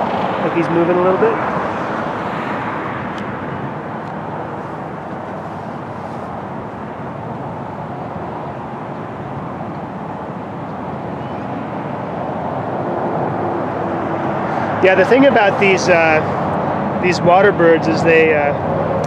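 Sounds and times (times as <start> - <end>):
outdoor rushing noise: 0.0 - 19.0.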